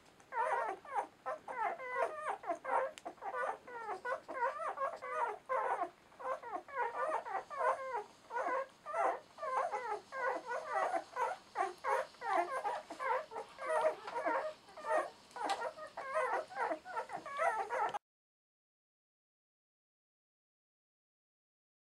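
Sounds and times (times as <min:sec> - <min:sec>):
puppies whimpering and squeaking: 0:00.3 - 0:18.0.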